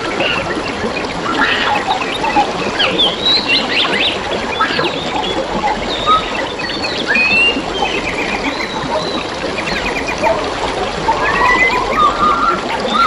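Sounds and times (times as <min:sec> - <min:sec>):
flowing water babbling: 0:00.0 - 0:13.0
wild birds chirping: 0:00.0 - 0:13.0.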